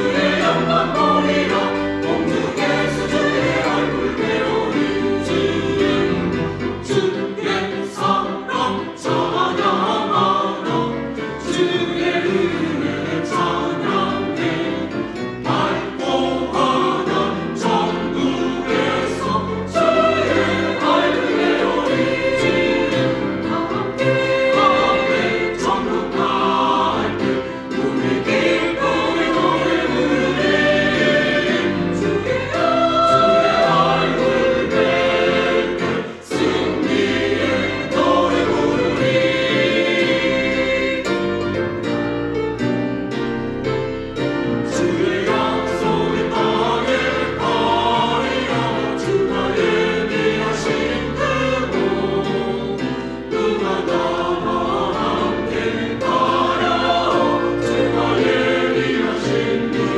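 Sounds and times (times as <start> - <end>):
church choir singing hymn: 0.0 - 59.9
musical accompaniment: 0.0 - 59.9.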